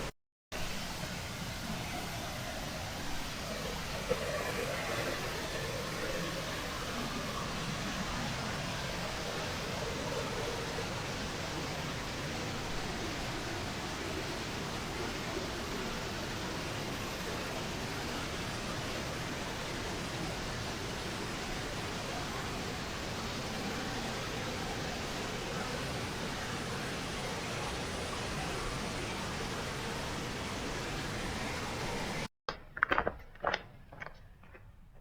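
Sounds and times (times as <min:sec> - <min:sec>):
rushing water roar: 0:00.0 - 0:32.3.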